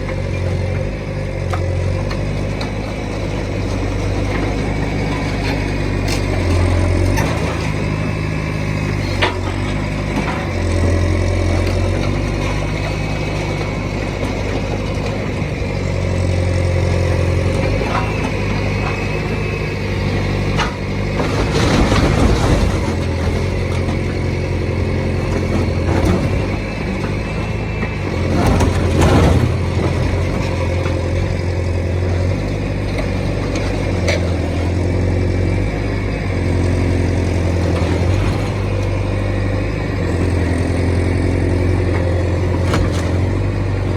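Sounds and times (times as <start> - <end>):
heavy machine engine revving: 0.0 - 43.9.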